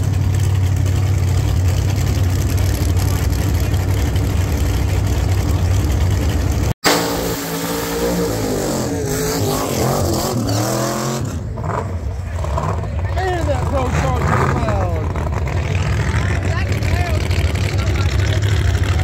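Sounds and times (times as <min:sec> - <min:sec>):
car engine revving: 0:00.0 - 0:19.0
drag car engines rumbling: 0:00.0 - 0:19.0.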